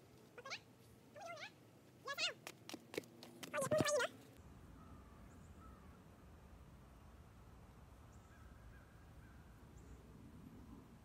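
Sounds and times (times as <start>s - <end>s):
faint outdoor hum: 0.0s - 11.0s.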